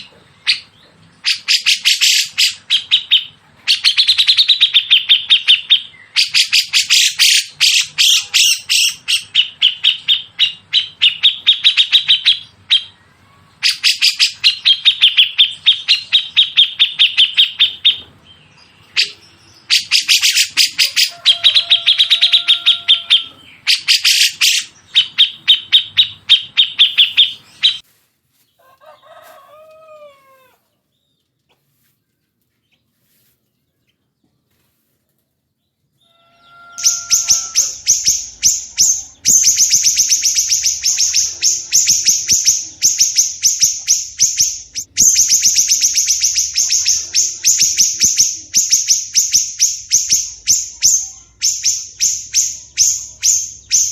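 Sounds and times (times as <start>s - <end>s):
songbird chattering: 0.0s - 27.8s, 36.1s - 53.9s.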